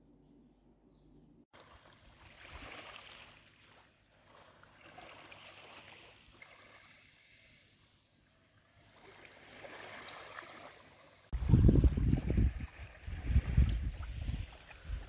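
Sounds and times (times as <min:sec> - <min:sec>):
small waves lapping on shore: 0:01.6 - 0:15.0.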